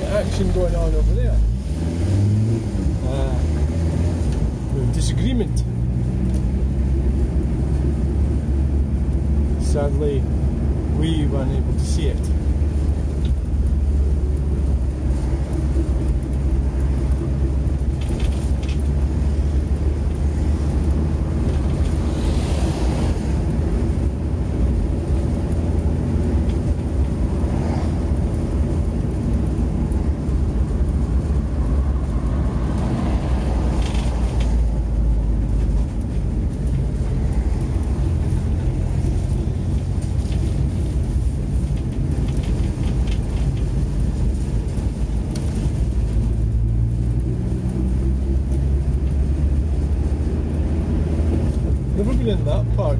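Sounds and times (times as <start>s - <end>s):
road noise: 0.0s - 52.9s
van engine drone: 0.0s - 52.9s.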